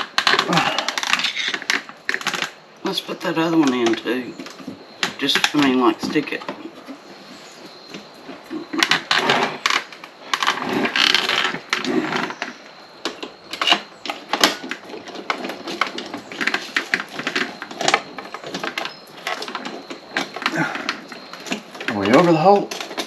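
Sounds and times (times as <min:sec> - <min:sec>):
plastic parts clicking and knocking: 0:00.0 - 0:02.6, 0:03.2 - 0:06.9, 0:07.9 - 0:23.0
rustling: 0:00.0 - 0:23.0.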